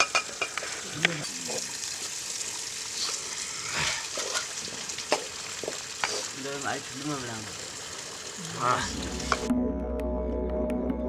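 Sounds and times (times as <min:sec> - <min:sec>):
steady hiss: 0:00.0 - 0:09.5.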